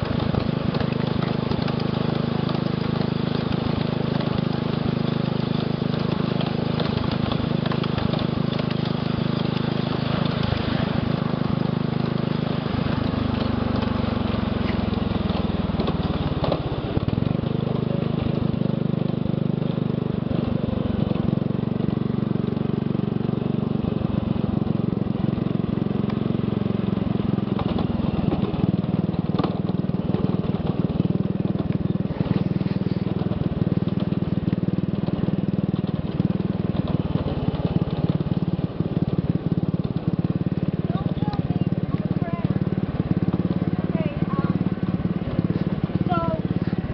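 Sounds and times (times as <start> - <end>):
small locomotive engine running: 0.0 - 46.9.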